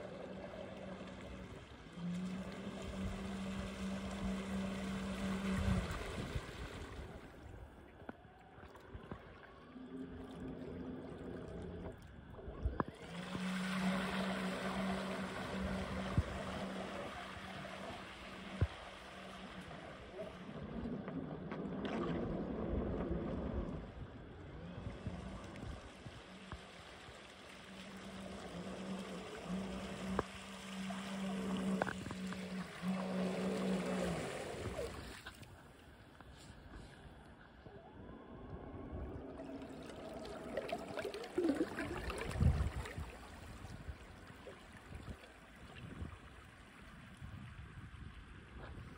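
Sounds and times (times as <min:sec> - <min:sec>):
boat motors humming: 0:00.0 - 0:48.9
wind and water wash: 0:00.0 - 0:48.9.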